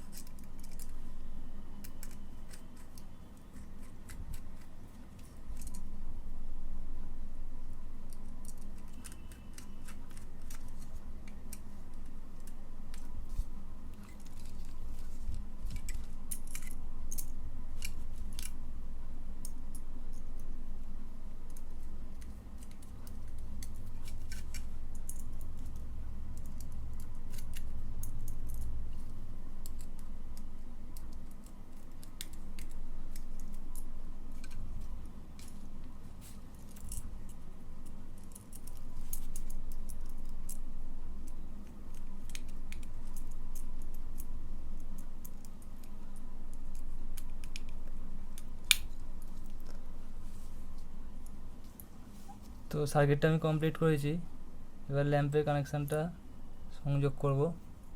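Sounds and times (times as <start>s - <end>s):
low rumble of handling noise: 0.0s - 57.9s.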